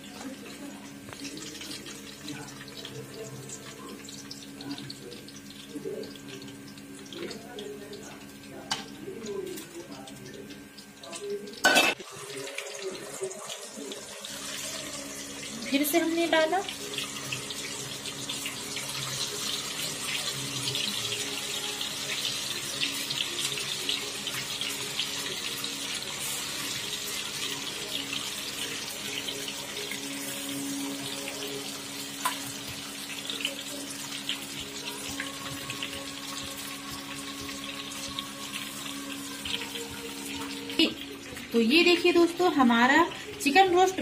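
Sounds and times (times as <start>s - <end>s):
chicken deep-frying in oil: 0.0s - 44.0s.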